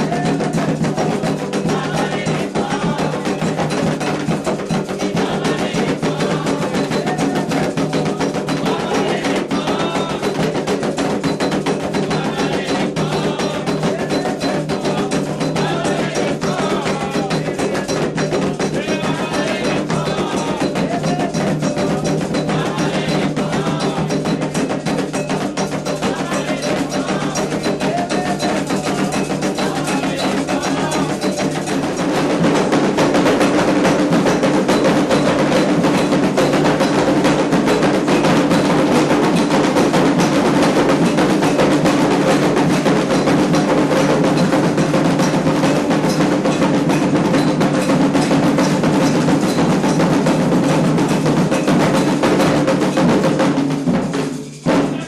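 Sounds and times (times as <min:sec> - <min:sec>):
hand drums: 0:00.0 - 0:55.0
struck bell rhythm: 0:00.0 - 0:55.0.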